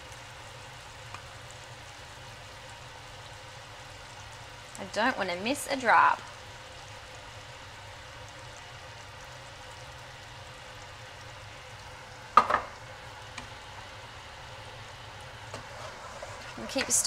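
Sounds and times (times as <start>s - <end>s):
sugar sizzling in a saucepan: 0.0s - 17.0s.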